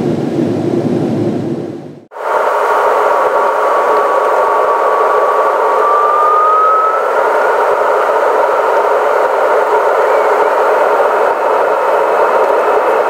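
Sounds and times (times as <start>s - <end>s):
airflow and engine rush: 0.0s - 13.0s
thin whine: 2.1s - 13.0s.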